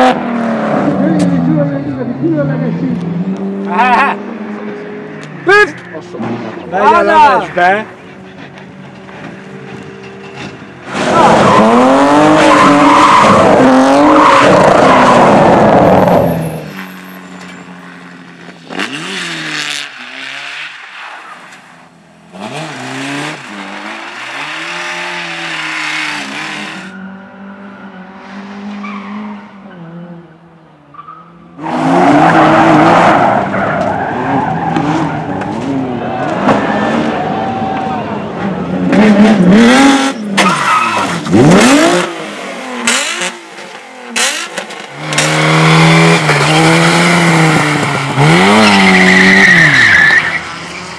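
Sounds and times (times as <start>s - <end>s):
racing car engines revving: 0.0s - 50.9s
tyres skidding and squealing: 0.0s - 50.9s.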